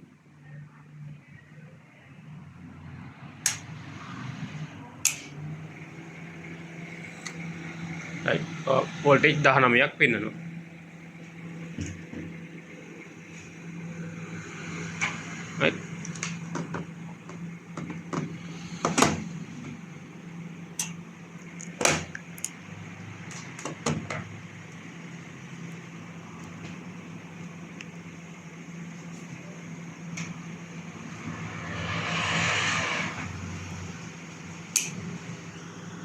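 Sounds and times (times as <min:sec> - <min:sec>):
microwave fan humming: 0:04.7 - 0:31.7, 0:33.4 - 0:36.0.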